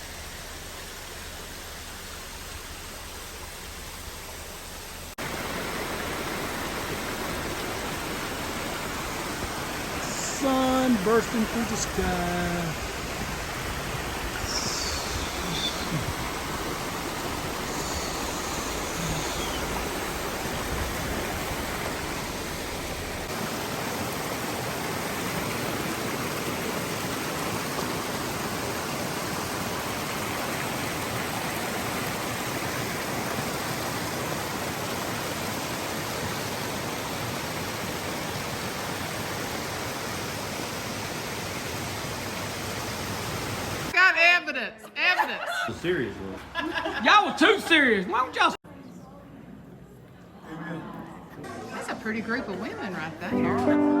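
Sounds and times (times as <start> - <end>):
mountain stream rushing: 0.0 - 44.0.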